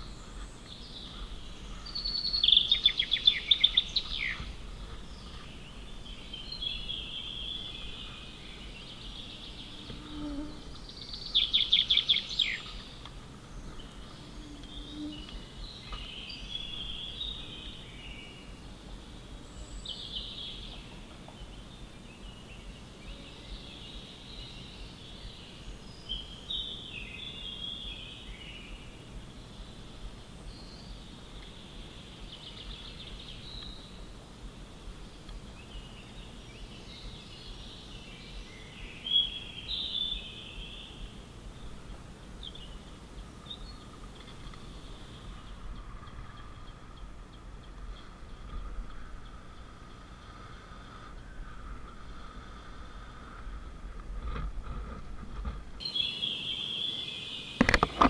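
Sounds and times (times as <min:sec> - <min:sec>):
birds chirping: 0:00.0 - 0:58.0
faint background noise: 0:00.0 - 0:58.0.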